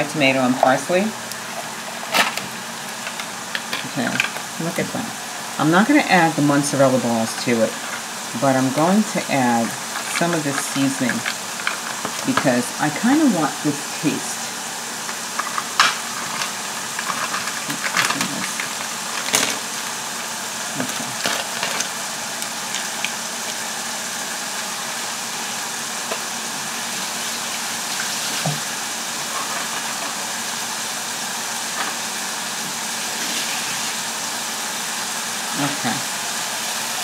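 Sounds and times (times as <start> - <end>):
sauce sizzling in a skillet: 1.2 - 12.8, 13.5 - 37.0.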